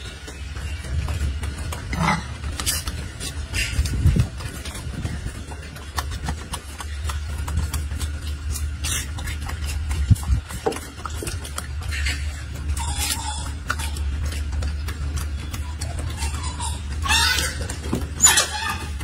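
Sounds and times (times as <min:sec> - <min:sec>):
steady low rumble: 0:00.0 - 0:19.0
monkey chewing lettuce crunches: 0:01.4 - 0:19.0.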